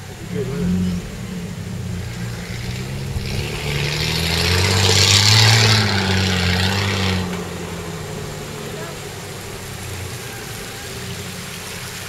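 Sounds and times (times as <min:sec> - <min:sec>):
off-road vehicle engine running: 0:00.0 - 0:12.0
water splashing: 0:00.0 - 0:12.0.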